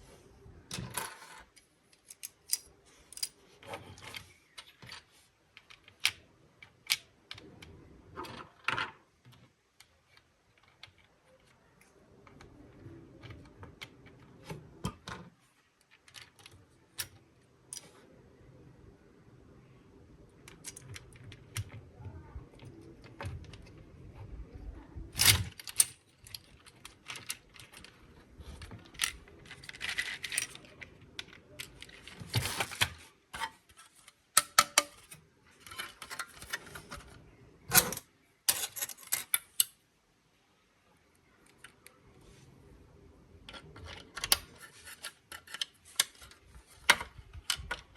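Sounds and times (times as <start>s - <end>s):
plastic toy parts clicking and rattling: 0.7s - 11.5s, 12.2s - 17.9s, 20.4s - 23.8s, 25.1s - 39.8s, 43.4s - 47.9s.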